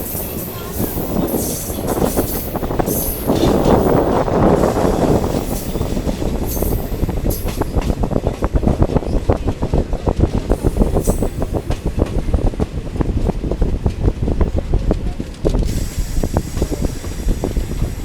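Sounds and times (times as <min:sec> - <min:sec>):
train rumble on board: 0:00.0 - 0:18.0
wheels clattering on track: 0:00.0 - 0:18.0.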